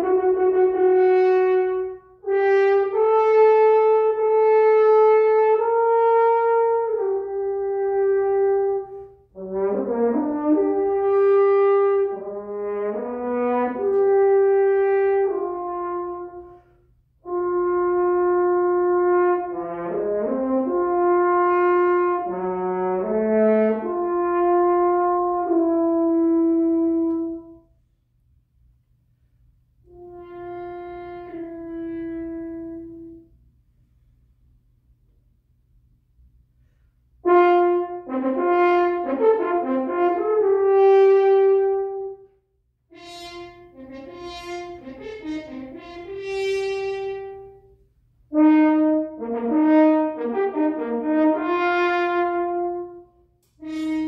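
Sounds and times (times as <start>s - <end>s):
french horn playing: 0.0s - 27.8s, 29.8s - 33.6s, 36.7s - 54.0s.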